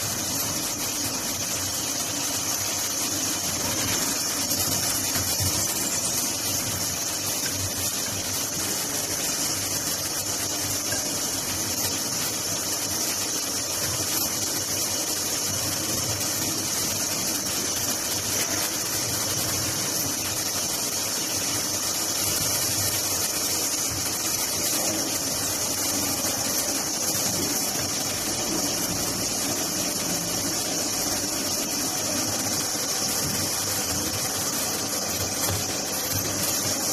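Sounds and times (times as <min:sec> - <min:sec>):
cutting machine hissing: 0:00.0 - 0:36.9.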